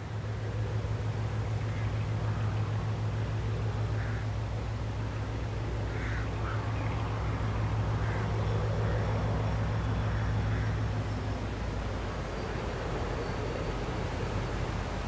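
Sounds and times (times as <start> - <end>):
diesel locomotive drone: 0.0 - 15.0.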